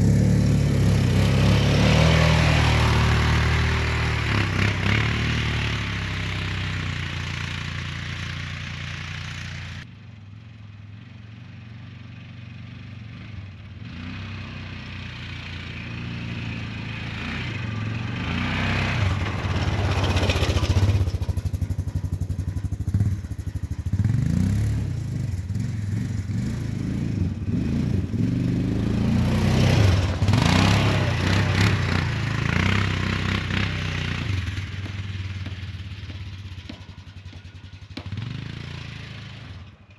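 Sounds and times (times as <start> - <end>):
engine running: 0.0 - 10.0, 14.6 - 39.9.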